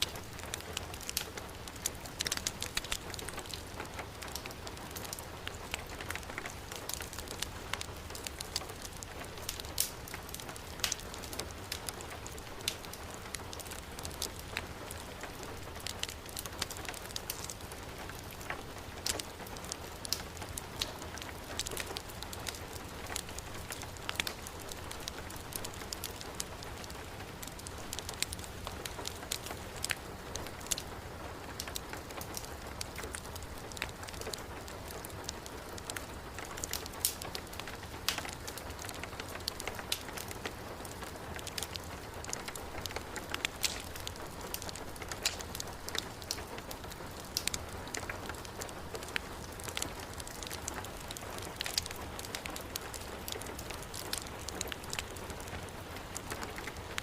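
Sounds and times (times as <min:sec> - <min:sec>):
heavy rain: 0:00.0 - 0:57.0
wood fire crackling: 0:00.0 - 0:57.0.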